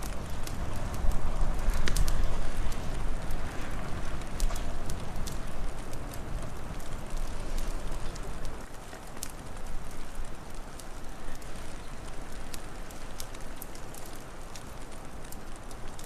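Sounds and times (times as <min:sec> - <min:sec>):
low rush of wind: 0:00.0 - 0:16.0
wood fire crackling and popping: 0:00.0 - 0:16.0.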